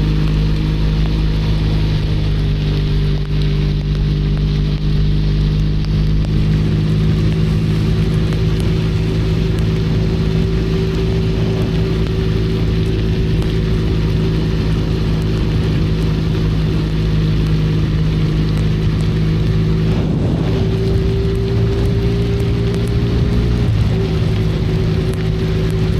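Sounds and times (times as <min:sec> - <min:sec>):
motorcycle engine running: 0:00.0 - 0:25.9
rain and tyre spray hiss: 0:00.0 - 0:25.9.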